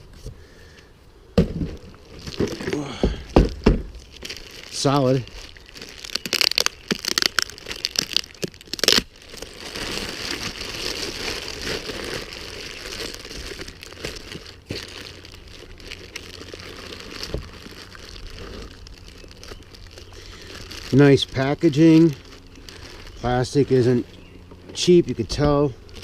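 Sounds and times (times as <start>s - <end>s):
packaging crinkling and rustling: 1.7s - 26.0s.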